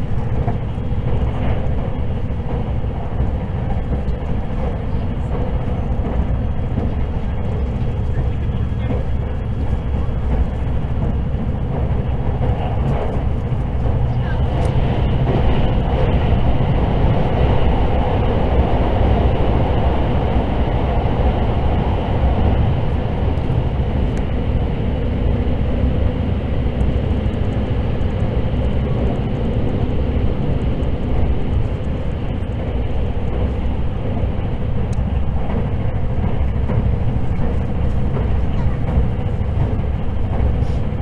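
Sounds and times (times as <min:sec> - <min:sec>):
wheels rumbling on rail: 0:00.0 - 0:41.0.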